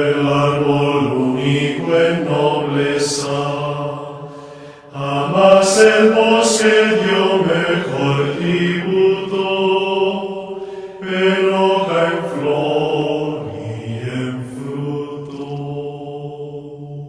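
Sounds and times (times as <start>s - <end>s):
low voices chanting: 0.0s - 17.0s.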